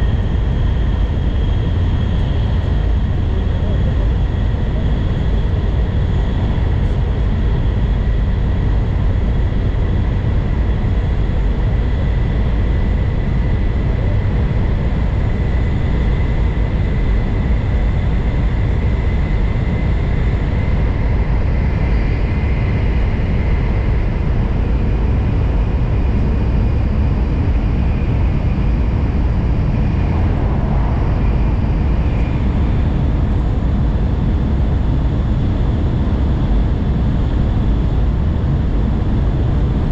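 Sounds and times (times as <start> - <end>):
train cabin low rumble: 0.0 - 21.9, 22.6 - 39.9.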